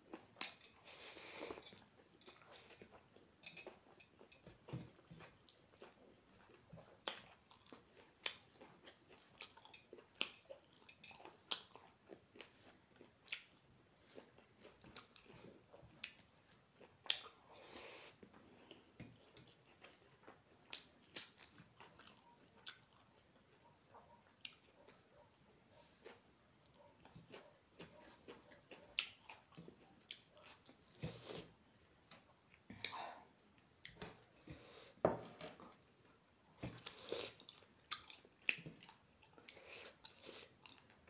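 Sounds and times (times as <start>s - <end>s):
chewing with wet mouth clicks: 0.1s - 25.3s, 26.0s - 31.5s, 36.6s - 41.0s.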